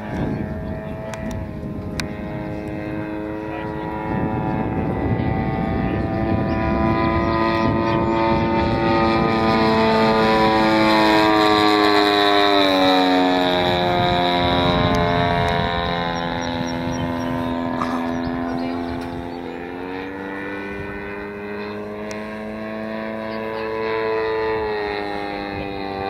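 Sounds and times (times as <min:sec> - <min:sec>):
model airplane propeller engine: 0:00.0 - 0:26.0.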